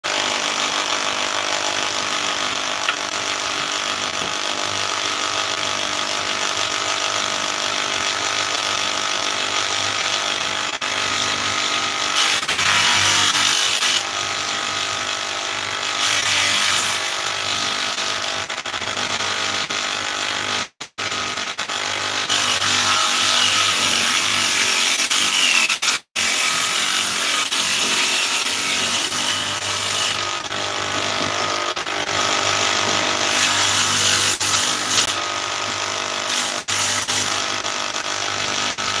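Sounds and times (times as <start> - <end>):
table saw running: 0.0 - 39.0.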